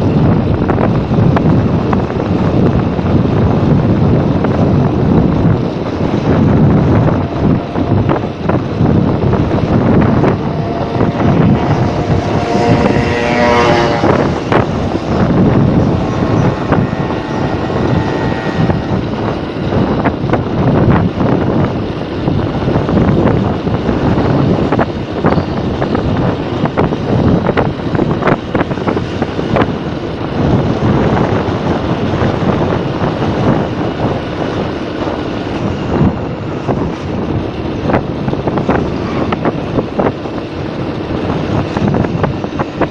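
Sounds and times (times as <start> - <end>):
motorcycle engine: 0.0 - 42.9
road noise: 0.0 - 42.9
wind buffeting microphone: 0.0 - 42.9.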